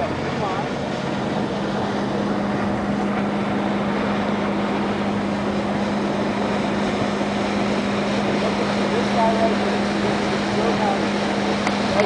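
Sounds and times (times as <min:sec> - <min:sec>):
boat engine humming: 0:00.0 - 0:12.0
rush of wind: 0:00.0 - 0:12.0
water rushing: 0:00.0 - 0:12.0.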